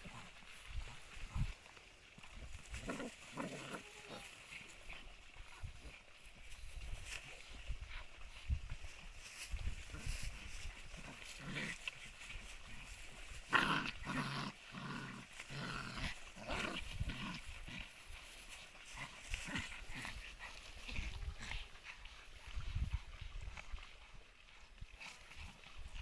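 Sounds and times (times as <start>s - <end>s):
puppies fighting and yelping: 0.0s - 26.0s.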